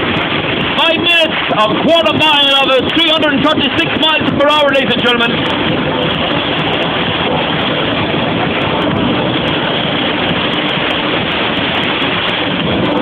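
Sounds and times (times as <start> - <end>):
jet engine running: 0.0 - 13.0.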